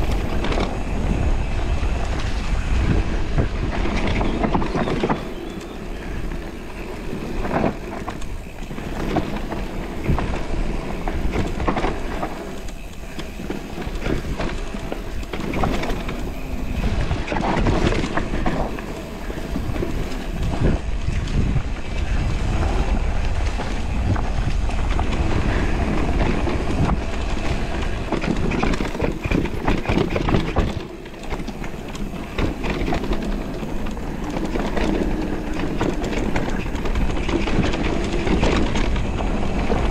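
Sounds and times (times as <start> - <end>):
bike tyres on dirt and leaves: 0.0 - 39.9
wind buffeting microphone: 0.0 - 39.9.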